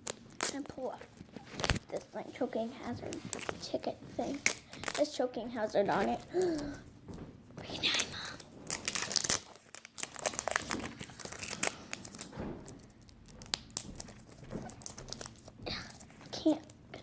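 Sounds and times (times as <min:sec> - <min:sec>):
plastic packaging crinkling and tearing: 0:00.0 - 0:06.9, 0:07.6 - 0:17.0.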